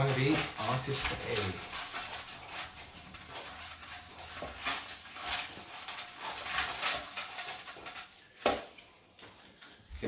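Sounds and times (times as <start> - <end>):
paper slips rustling: 0.0 - 8.8.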